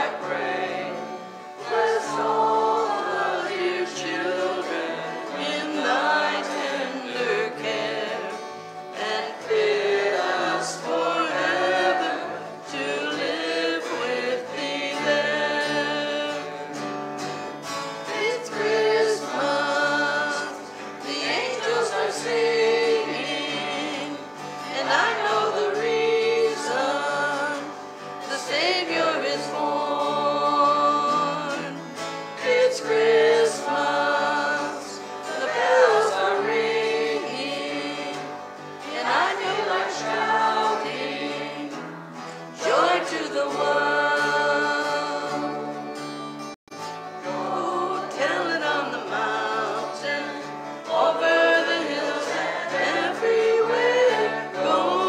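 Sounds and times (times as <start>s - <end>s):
band singing a hymn: 0.0s - 17.4s, 18.0s - 45.8s, 47.2s - 55.0s
acoustic guitar: 0.0s - 55.0s.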